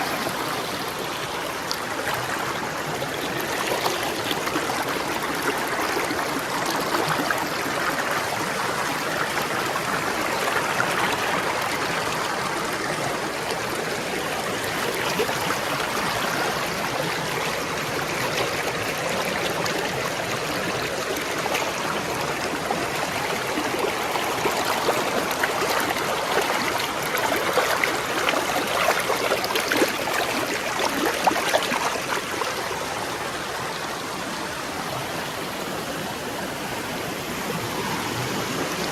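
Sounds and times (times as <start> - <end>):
water splashing and gurgling: 0.0 - 33.8
stream flowing over stones: 0.0 - 38.9.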